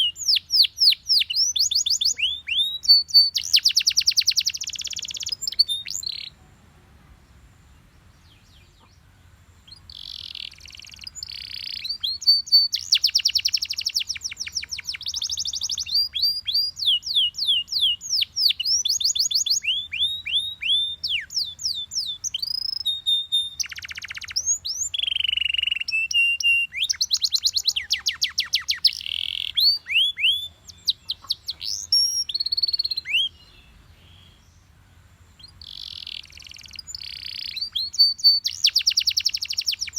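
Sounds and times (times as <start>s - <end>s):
canary singing trills: 0.0s - 6.5s, 7.6s - 39.9s.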